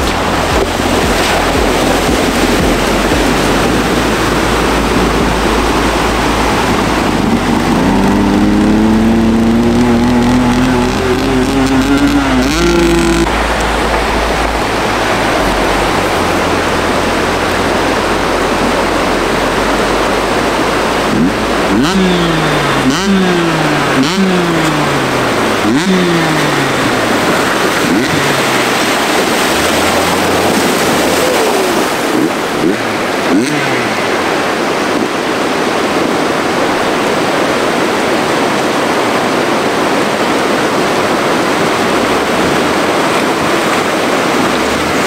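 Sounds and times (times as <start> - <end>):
engine revving in blips: 0.0 - 45.0
splashing water rush: 0.0 - 45.0.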